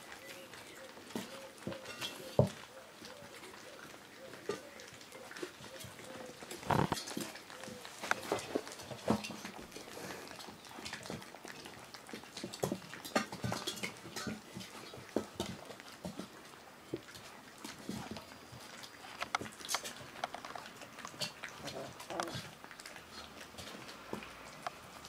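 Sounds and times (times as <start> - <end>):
puppies lapping and chewing: 0.0 - 25.0.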